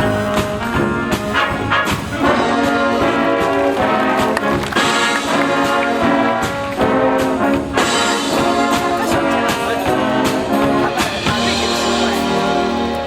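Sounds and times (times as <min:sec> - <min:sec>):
percussion hits: 0:00.0 - 0:13.0
wind band playing: 0:00.0 - 0:13.0.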